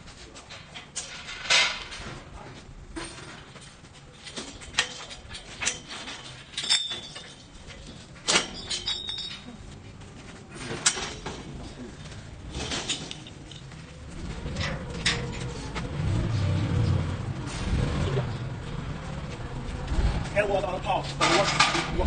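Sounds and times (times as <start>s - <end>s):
metal scaffolding clanks and knocks: 0.0s - 9.7s, 10.3s - 16.9s, 20.2s - 22.0s.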